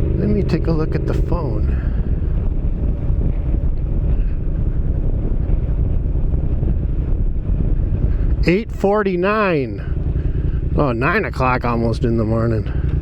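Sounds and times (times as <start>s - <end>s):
motorcycle engine rumbling: 0.0s - 13.0s
wind buffeting microphone: 0.0s - 13.0s.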